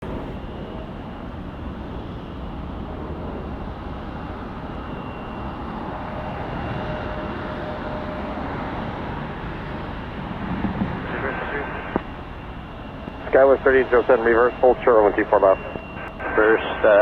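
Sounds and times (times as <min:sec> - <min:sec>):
jet engine rushing with high whine: 0:00.0 - 0:17.0.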